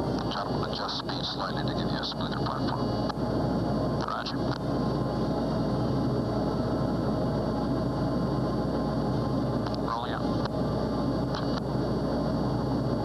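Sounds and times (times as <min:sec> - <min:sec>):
dense low drone: 0:00.0 - 0:13.0.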